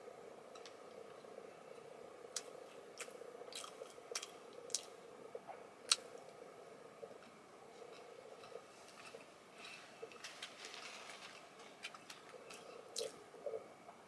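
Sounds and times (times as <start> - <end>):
faint steady hum: 0.0 - 14.0
chewing soft snack cake: 0.6 - 14.0.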